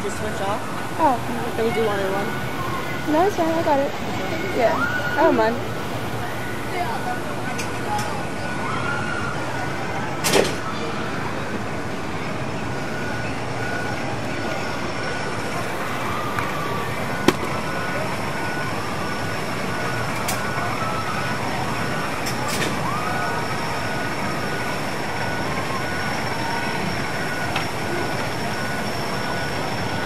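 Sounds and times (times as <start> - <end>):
mechanical rumble of rides: 0.0 - 30.0.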